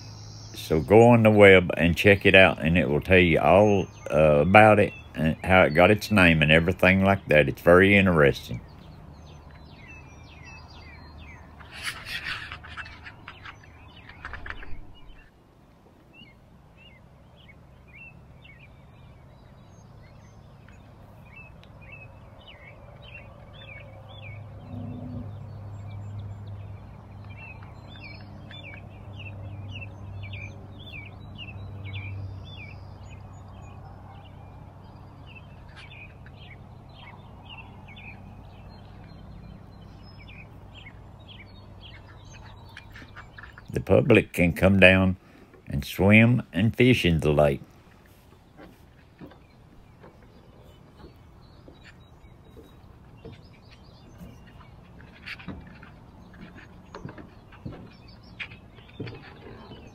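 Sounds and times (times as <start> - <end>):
low steady hum: 0.0 - 59.9
small birds chirping: 0.0 - 59.9.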